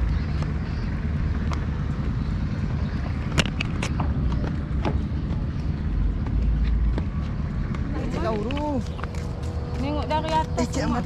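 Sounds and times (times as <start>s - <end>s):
engine running low: 0.0s - 11.0s.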